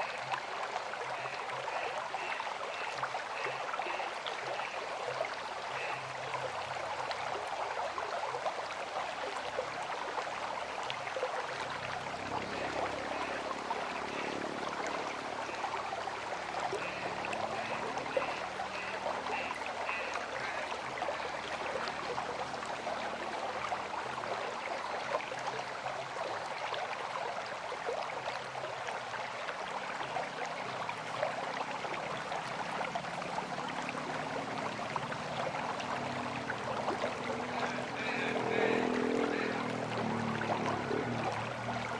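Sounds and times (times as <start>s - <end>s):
river water flowing: 0.0s - 41.9s.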